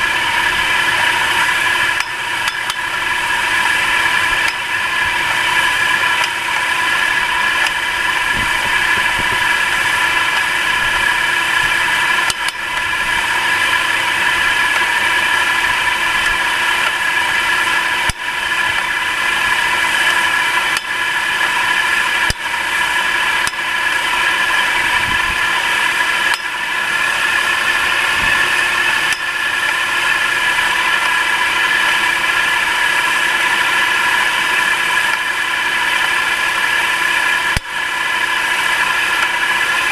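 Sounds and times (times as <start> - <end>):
car engine idling with whine: 0.0 - 39.9.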